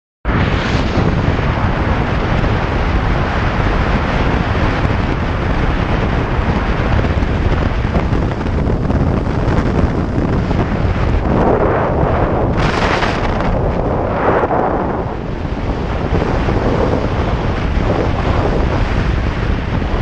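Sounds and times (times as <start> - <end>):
wind rush on microphone: 0.2 - 20.0
road and engine noise: 1.0 - 20.0.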